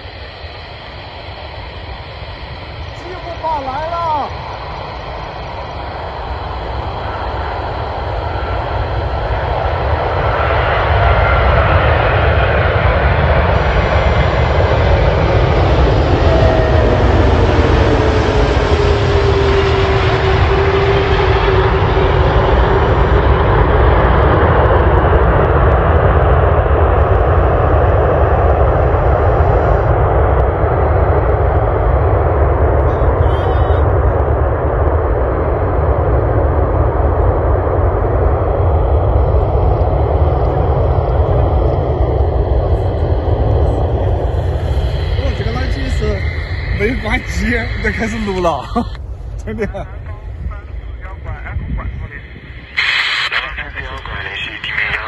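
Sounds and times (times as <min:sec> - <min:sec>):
falling jet whine: 0:00.0 - 0:55.0
jet engines roaring: 0:00.0 - 0:55.0.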